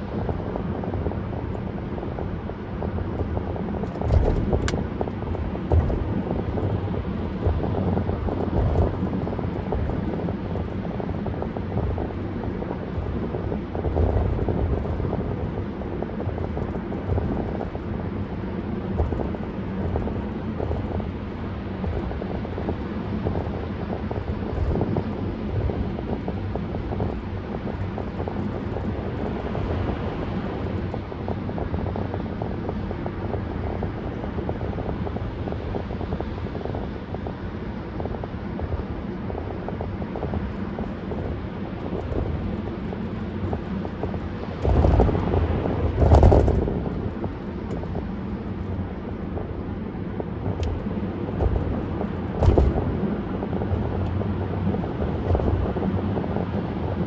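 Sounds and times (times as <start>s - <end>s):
car engine hum: 0.0s - 33.0s, 36.7s - 57.0s
tyre and road noise: 0.0s - 57.0s.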